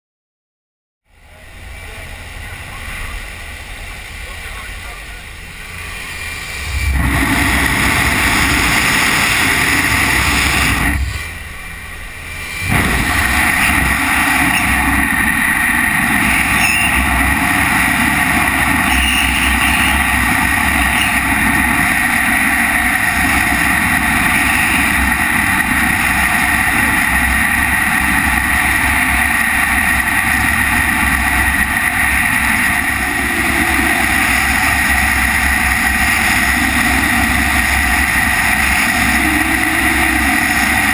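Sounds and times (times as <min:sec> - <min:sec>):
wind roaring over camera: 0:05.3 - 0:40.9.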